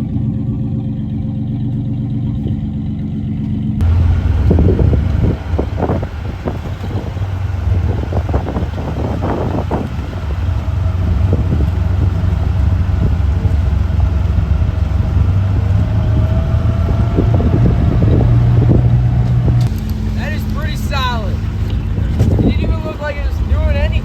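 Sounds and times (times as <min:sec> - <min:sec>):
car engine and road drone: 0:00.0 - 0:24.0
faint whine: 0:03.8 - 0:24.0
wind buffeting: 0:03.8 - 0:24.0.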